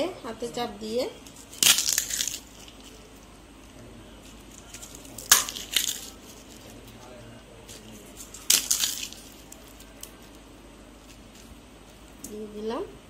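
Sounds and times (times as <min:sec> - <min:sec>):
crisp shells crunching: 0:01.2 - 0:12.1.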